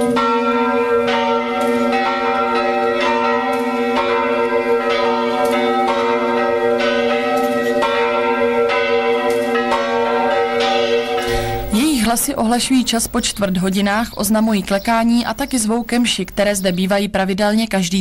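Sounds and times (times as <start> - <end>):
church bells ringing: 0.0 - 16.9.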